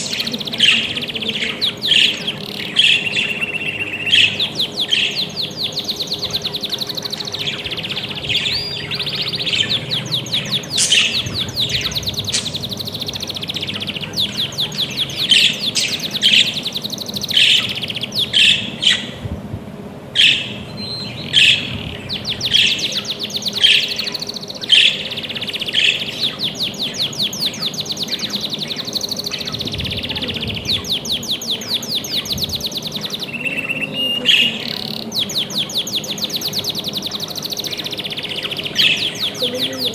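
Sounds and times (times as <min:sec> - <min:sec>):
budgerigars chattering: 0:00.0 - 0:19.2, 0:20.2 - 0:39.9
sharp bird chirps: 0:00.0 - 0:19.2, 0:20.2 - 0:39.9.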